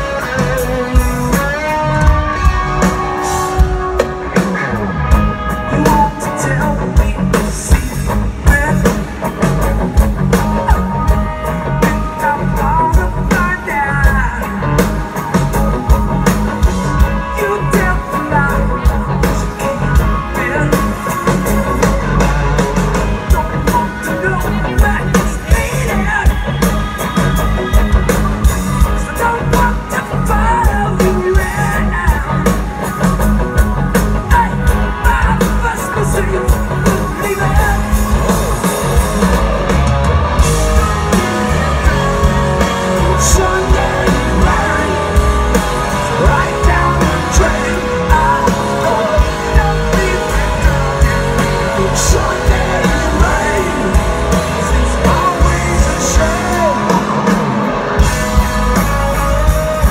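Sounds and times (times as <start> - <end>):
man singing lead vocal: 0.0 - 39.8, 40.4 - 59.9
rock band playing: 0.0 - 59.9.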